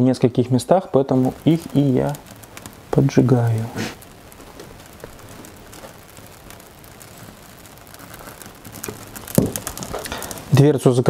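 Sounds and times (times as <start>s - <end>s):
fire crackling and hissing: 0.0s - 11.0s.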